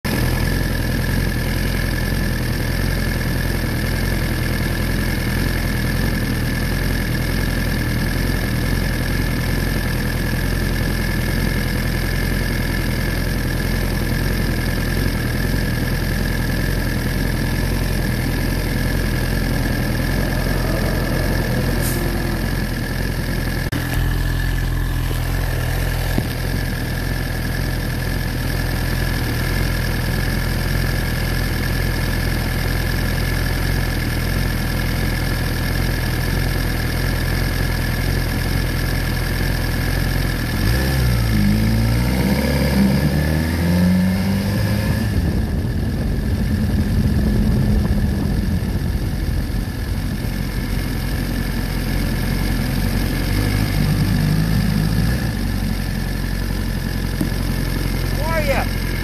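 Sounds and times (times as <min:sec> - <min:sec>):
motorcycle engine idling: 0:00.0 - 0:41.8, 0:45.0 - 0:59.0.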